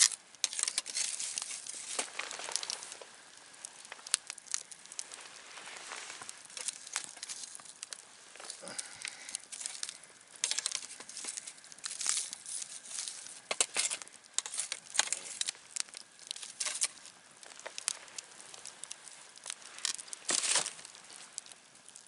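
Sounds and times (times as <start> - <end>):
campfire crackling and popping: 0.0 - 22.0
faint hiss: 0.0 - 22.0.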